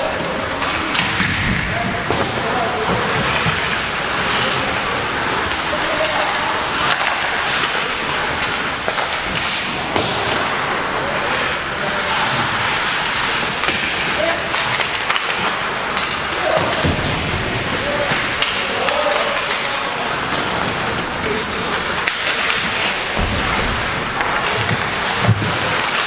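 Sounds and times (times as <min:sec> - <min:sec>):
hockey sticks and puck clacking: 0:00.0 - 0:26.0
skate blades scraping ice: 0:00.0 - 0:26.0.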